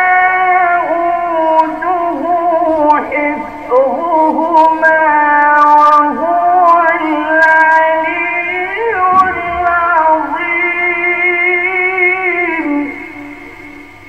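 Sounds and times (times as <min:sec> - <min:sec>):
man reciting in melodic chant: 0:00.0 - 0:13.7.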